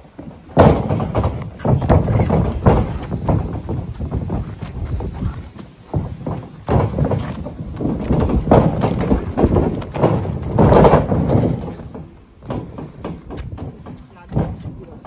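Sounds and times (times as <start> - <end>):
ring ropes rattling: 0.0 - 14.8
bodies thudding on ring canvas: 0.2 - 15.0.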